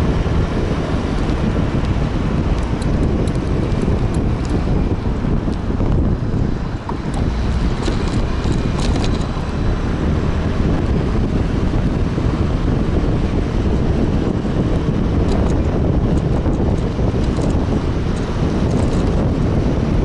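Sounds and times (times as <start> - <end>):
tyre noise: 0.0 - 19.8
scooter engine running: 0.0 - 20.0
wind on microphone: 0.0 - 20.0.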